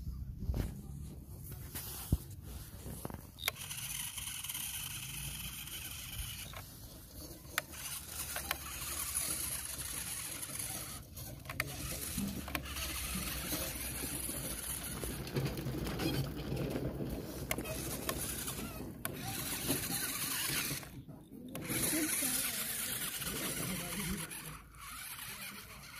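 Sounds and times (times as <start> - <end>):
electric motor and gearbox whirring: 0.5 - 25.9.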